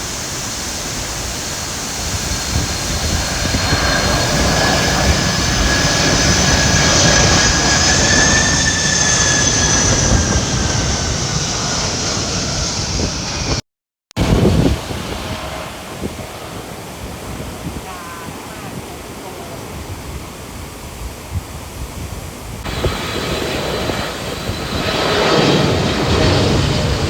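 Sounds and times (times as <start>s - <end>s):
high turbine whine: 0.0s - 13.6s, 14.2s - 27.0s
jet engine roar: 0.0s - 13.6s, 14.2s - 27.0s.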